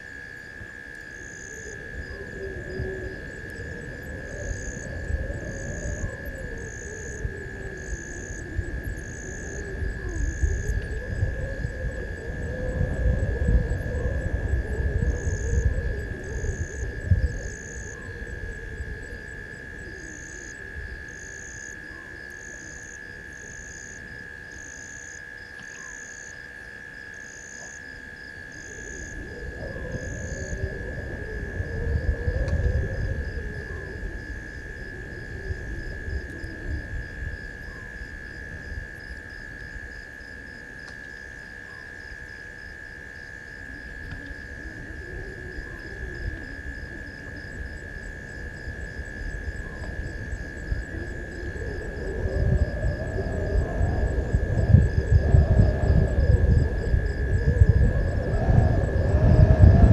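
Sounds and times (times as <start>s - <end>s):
steady high insect trill: 0.0s - 59.9s.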